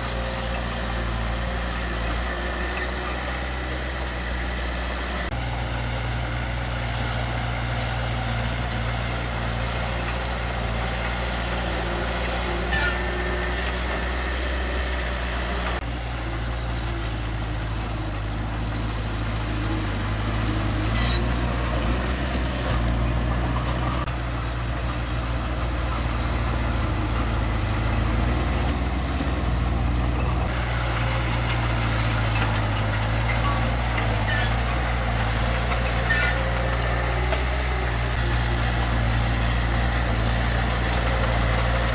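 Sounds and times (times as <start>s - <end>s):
metal clanks and squeaks: 0.0s - 5.1s, 5.8s - 41.9s
diesel machinery droning: 0.0s - 41.9s.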